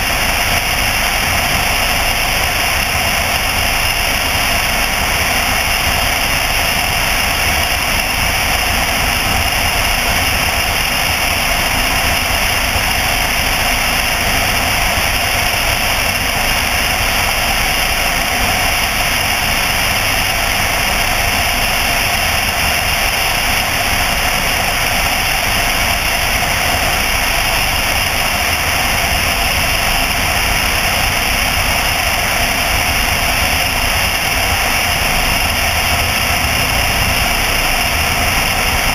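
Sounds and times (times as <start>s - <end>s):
light aircraft engine and propeller: 0.0s - 38.9s
rushing airflow: 0.0s - 38.9s.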